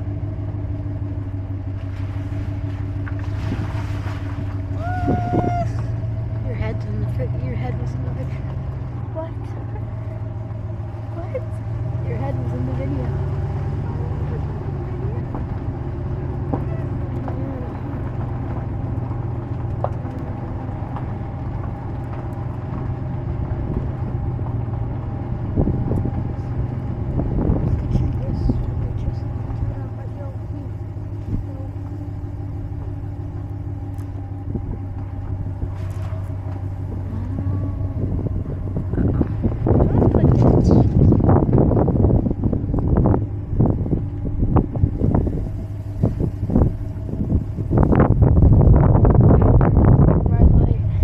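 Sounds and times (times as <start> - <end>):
vehicle engine and road drone: 0.0 - 51.0.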